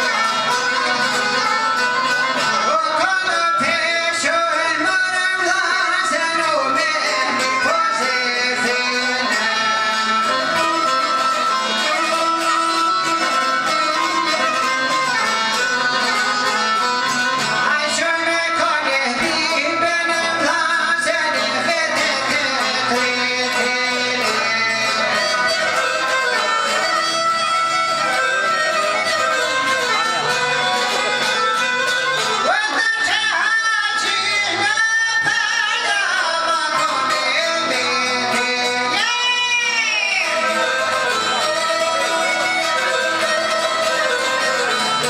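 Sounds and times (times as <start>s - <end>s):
bowed fiddle: 0.0s - 45.0s
person singing folk song: 0.0s - 45.0s
plucked strings: 0.0s - 45.0s.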